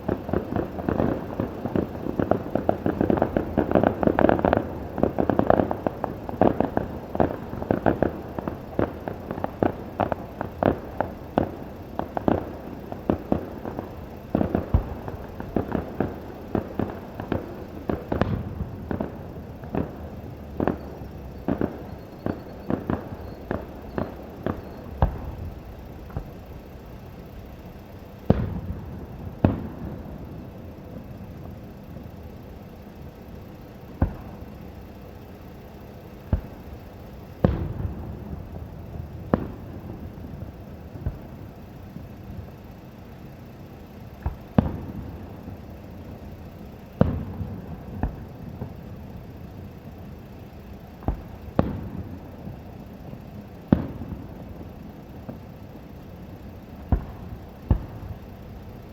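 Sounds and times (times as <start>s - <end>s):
fireworks shells bursting: 0.0s - 58.9s.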